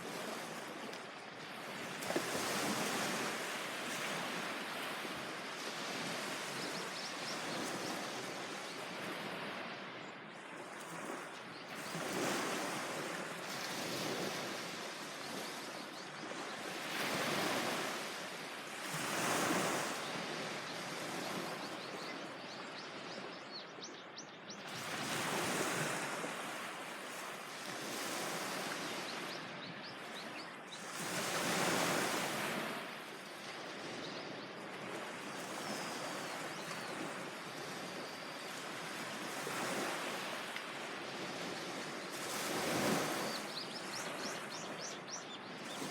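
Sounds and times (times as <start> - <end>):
ocean waves breaking on beach: 0.0 - 45.9.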